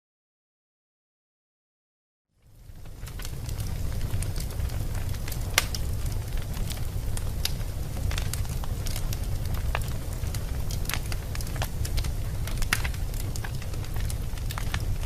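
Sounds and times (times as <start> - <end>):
fire crackles and pops: 2.4 - 15.0
low rumble of flames: 2.4 - 15.0.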